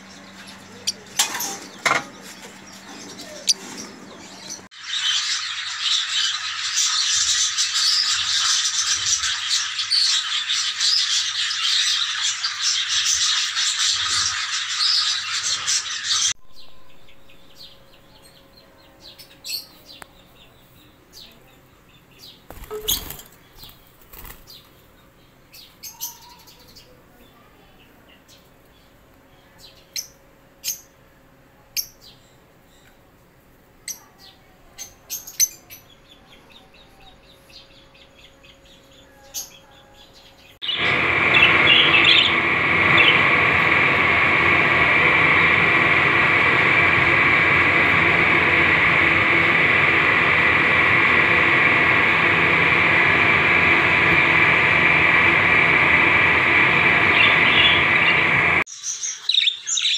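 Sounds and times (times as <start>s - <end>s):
dense chatter of budgerigar flock: 0.0s - 59.9s.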